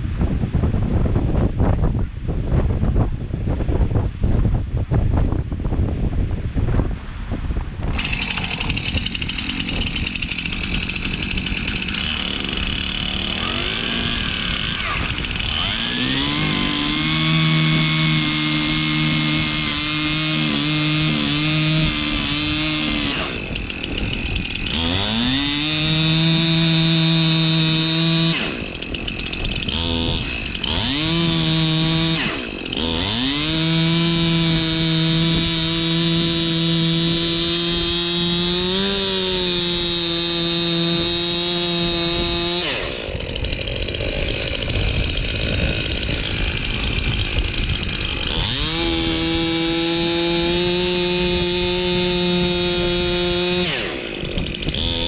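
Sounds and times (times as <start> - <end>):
chainsaw running at high revs: 7.8 - 55.0.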